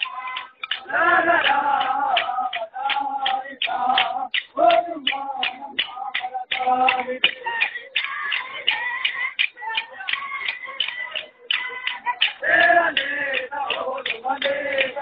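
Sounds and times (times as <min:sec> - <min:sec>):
group of people singing: 0:00.0 - 0:15.0
sharp regular beat: 0:00.0 - 0:15.0.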